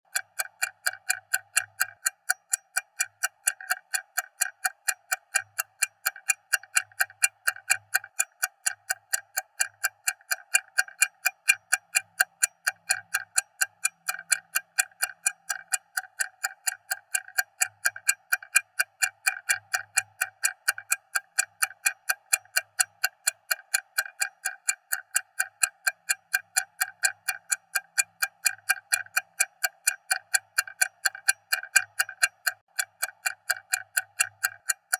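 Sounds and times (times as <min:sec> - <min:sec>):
stopwatch ticking: 0:00.1 - 0:34.9.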